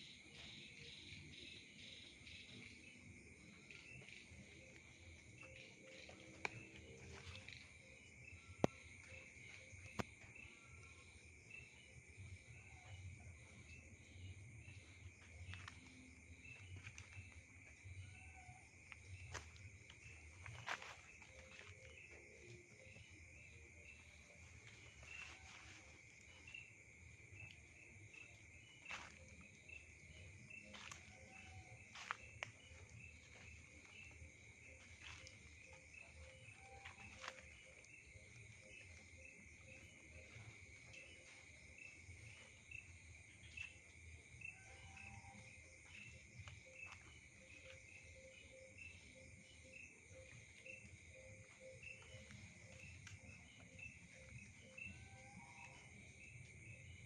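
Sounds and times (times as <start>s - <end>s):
insect chirp: 0.0s - 57.0s
insect trill: 0.0s - 57.0s.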